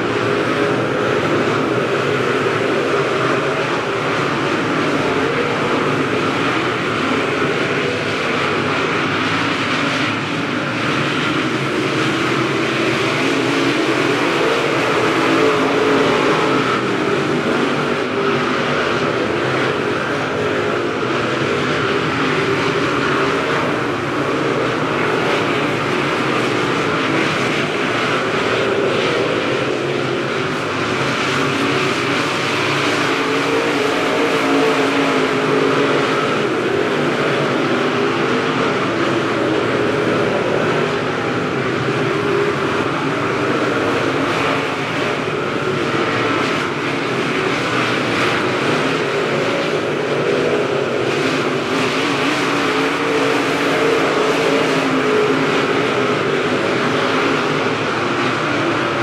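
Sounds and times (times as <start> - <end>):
race car engines: 0.0 - 59.0.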